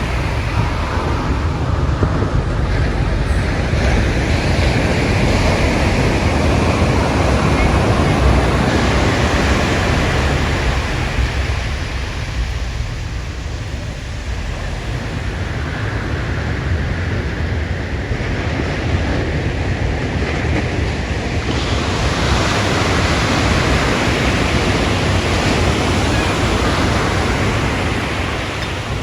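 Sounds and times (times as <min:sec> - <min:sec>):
ocean surf washing: 0:00.0 - 0:29.0
wind rumble on microphone: 0:00.0 - 0:29.0.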